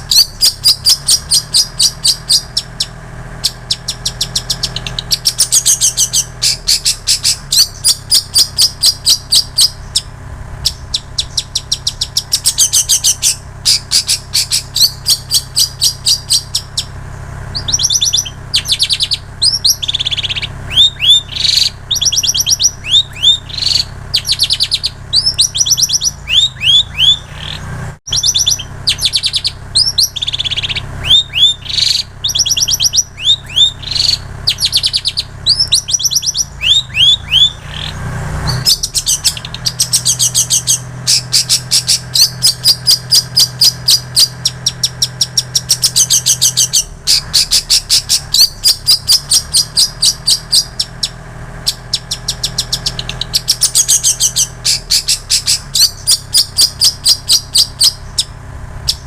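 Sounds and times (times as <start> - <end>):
low hum: 0.0 - 59.0
shrike singing: 0.0 - 59.0.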